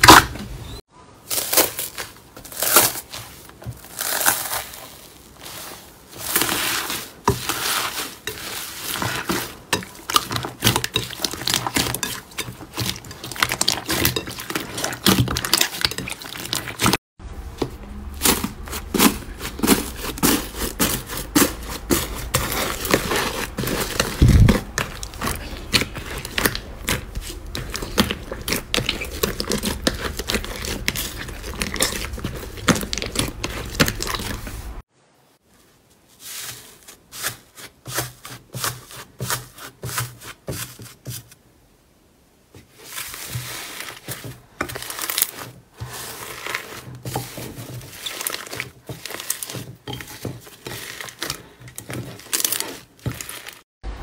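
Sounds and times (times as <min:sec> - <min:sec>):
hands squishing slime: 0:00.0 - 0:34.8, 0:42.6 - 0:53.6.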